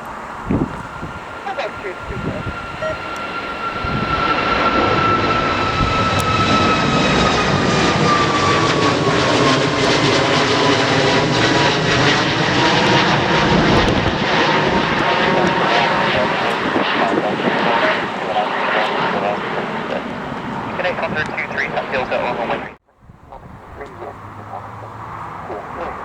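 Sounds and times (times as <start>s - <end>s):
airliner engines passing: 0.0s - 26.0s.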